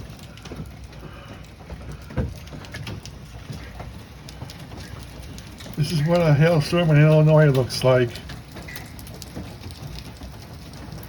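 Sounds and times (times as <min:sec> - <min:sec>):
hail hitting: 0:00.0 - 0:11.0
rain falling: 0:00.0 - 0:11.0.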